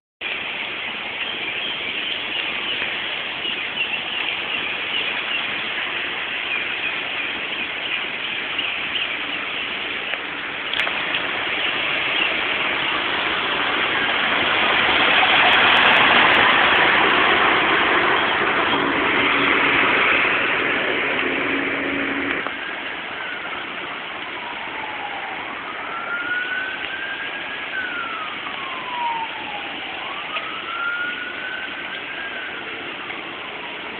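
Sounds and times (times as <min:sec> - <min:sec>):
heavy rain pouring: 0:00.2 - 0:33.9
emergency vehicle siren wailing: 0:00.4 - 0:33.9.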